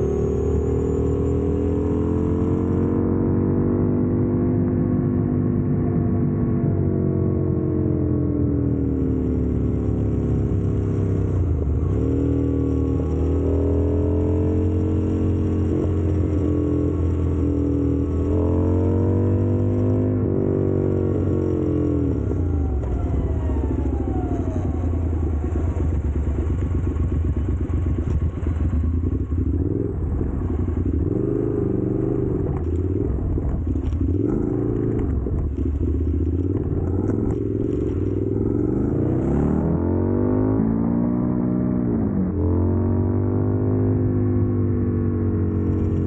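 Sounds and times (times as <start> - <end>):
motorcycle engine running: 0.0 - 41.0, 41.9 - 46.0.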